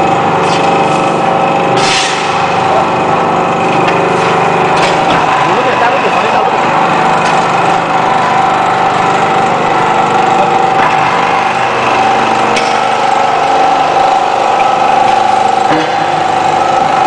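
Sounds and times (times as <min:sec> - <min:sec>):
hydraulic pump whine: 0:00.0 - 0:17.0
loud mechanical rattle: 0:00.0 - 0:17.0.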